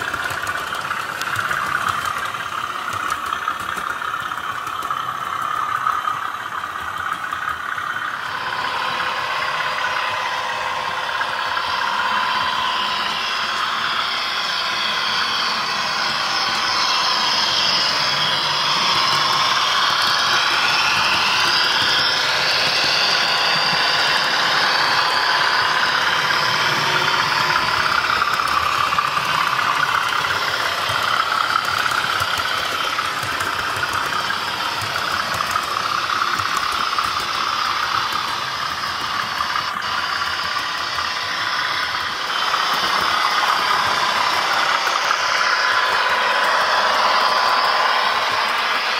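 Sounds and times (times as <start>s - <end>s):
model train running on rails: 0.0s - 48.9s.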